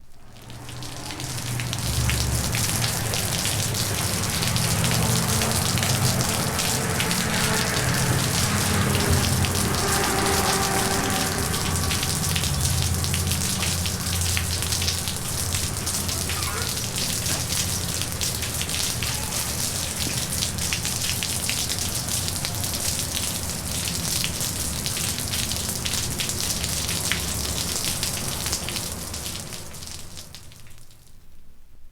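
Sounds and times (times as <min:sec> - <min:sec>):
heavy rain pouring: 0:00.0 - 0:31.1
low rumble of traffic: 0:00.0 - 0:31.9.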